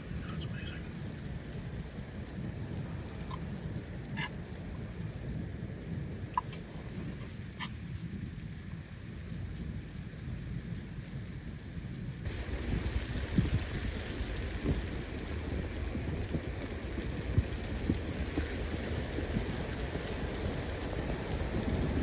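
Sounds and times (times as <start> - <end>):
bright hiss: 0.0 - 22.0
low rumbling background noise: 0.0 - 22.0.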